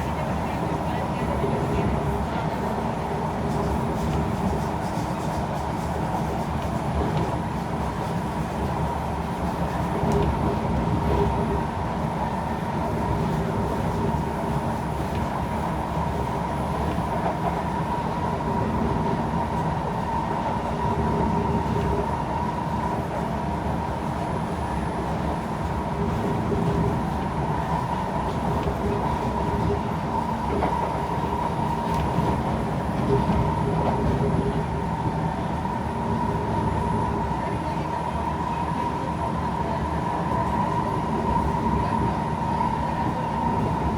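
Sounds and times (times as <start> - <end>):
metro train rumble and whine: 0.0 - 43.9.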